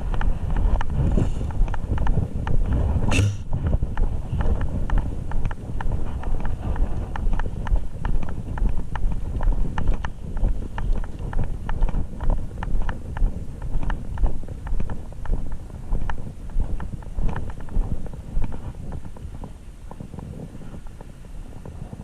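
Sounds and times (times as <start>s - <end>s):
quick footsteps: 0.0s - 22.0s.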